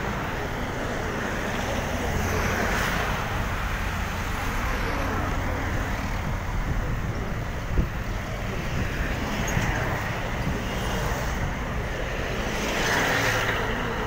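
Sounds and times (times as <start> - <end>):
passing cars rumble and hiss: 0.0 - 14.0.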